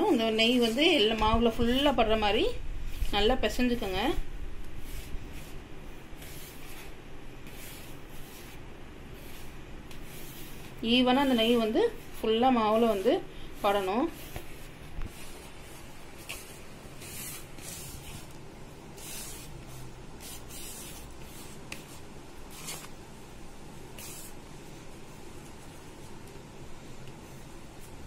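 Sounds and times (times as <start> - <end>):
hand rubbing flour in bowl: 0.0 - 28.0.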